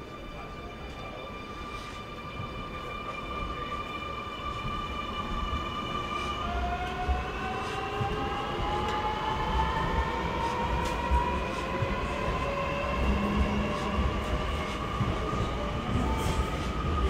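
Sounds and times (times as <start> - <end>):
train wheels rumbling: 1.0 - 17.0.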